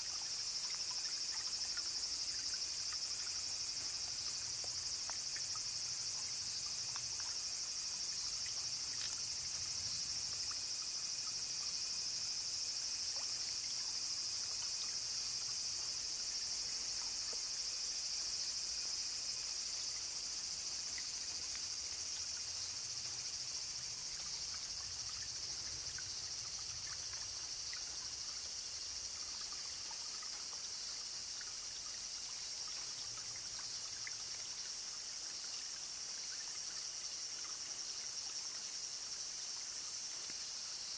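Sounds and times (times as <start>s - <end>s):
spring water trickling: 0.0s - 39.2s
insects chorus: 0.0s - 40.9s
small water drips: 0.0s - 40.9s.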